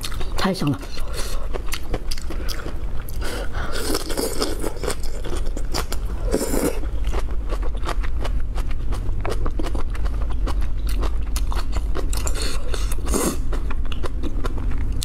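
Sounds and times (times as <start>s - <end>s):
crunchy chewing of vegetable: 0.0s - 15.0s.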